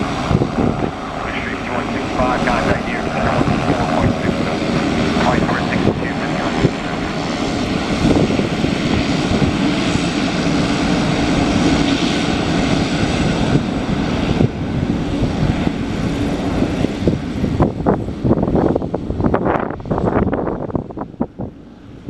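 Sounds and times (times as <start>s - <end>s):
turboprop engine drone: 0.0s - 22.0s.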